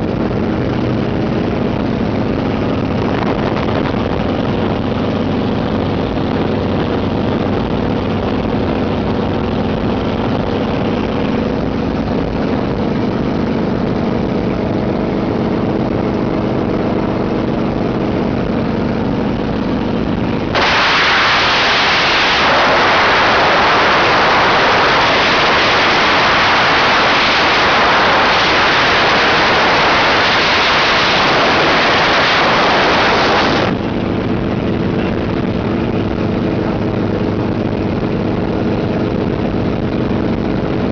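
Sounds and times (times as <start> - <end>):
wind rushing into microphone: 0.0 - 13.9, 16.7 - 37.0.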